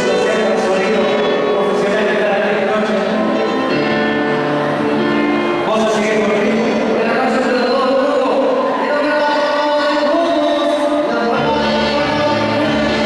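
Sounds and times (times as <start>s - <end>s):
men singing into microphones: 0.0s - 3.6s, 5.6s - 13.0s
live dance band playing: 0.0s - 13.0s.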